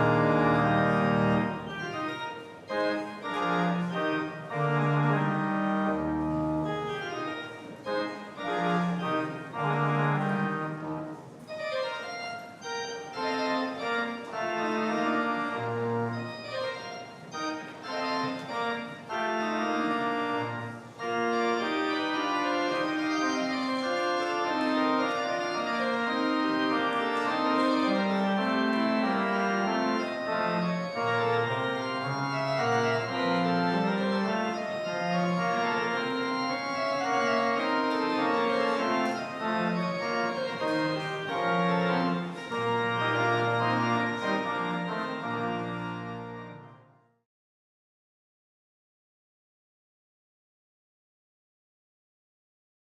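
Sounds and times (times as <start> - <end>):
organ music: 0.0 - 47.2.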